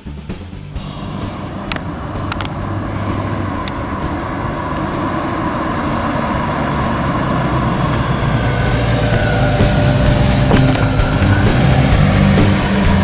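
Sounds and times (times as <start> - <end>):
car engine running: 0.0 - 13.0
tyre noise: 0.3 - 13.0.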